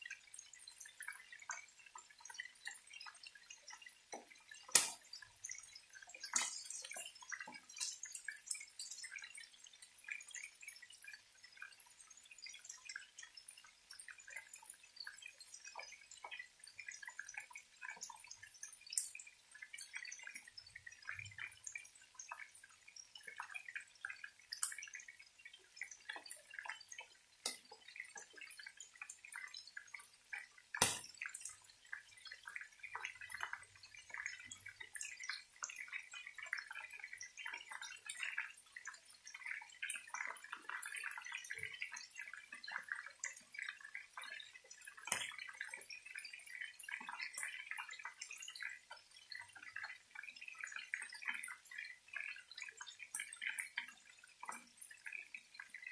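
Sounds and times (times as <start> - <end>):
chicken frying in oil: 0.0 - 55.9.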